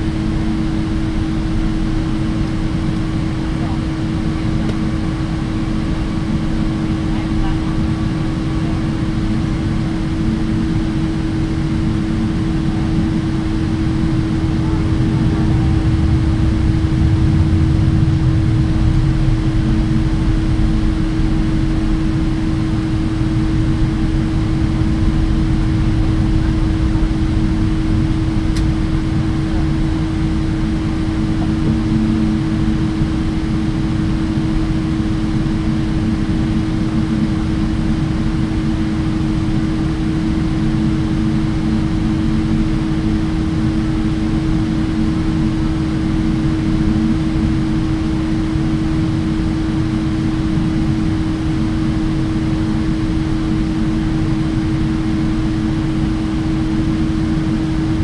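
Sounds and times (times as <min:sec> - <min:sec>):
aircraft cabin hum: 0:00.0 - 0:58.0.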